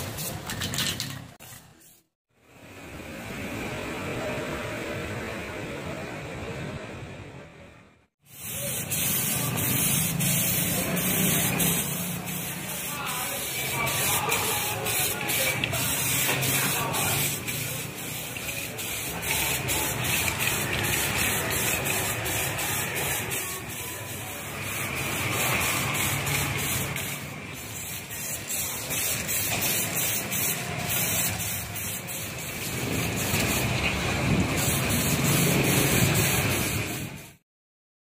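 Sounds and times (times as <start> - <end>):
spray paint can hissing: 0.0 - 2.1, 8.2 - 37.4.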